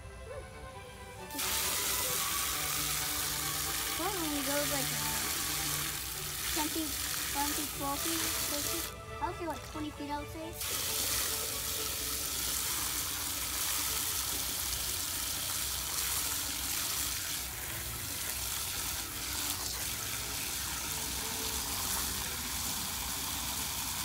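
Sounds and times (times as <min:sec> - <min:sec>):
hose water splashing into bucket: 0:01.3 - 0:24.0.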